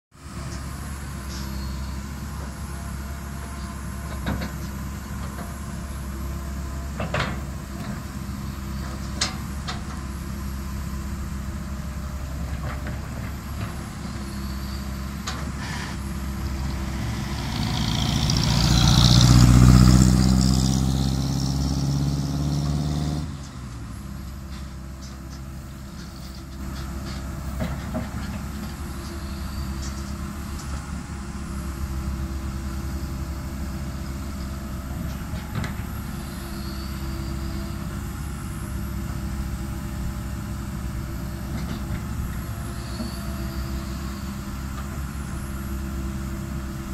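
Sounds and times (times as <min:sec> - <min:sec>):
excavator diesel engine: 0:00.2 - 0:46.9.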